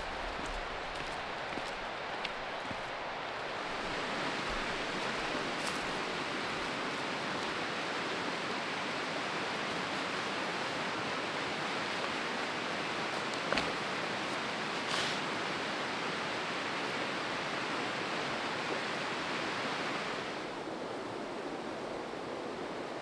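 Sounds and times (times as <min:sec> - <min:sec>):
river rushing over rapids: 0:00.0 - 0:23.0.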